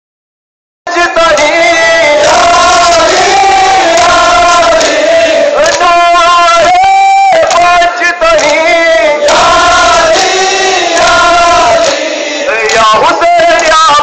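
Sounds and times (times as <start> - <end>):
men chanting in unison: 1.0 - 14.0.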